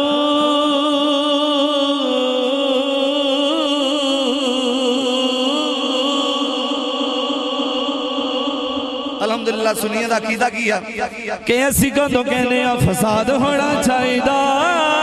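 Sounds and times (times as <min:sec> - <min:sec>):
man singing into microphone: 0:00.0 - 0:15.0.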